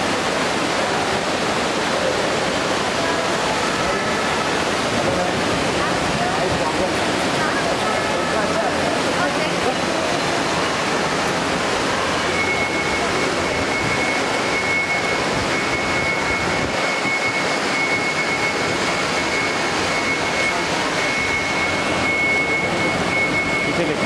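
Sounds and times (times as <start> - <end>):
crowd hubbub: 0.0 - 24.0
thin high whine: 0.0 - 24.0.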